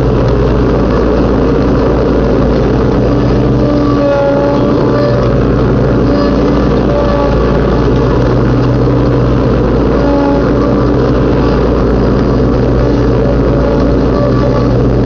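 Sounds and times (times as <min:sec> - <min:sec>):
riding lawn mower engine running: 0:00.0 - 0:15.0.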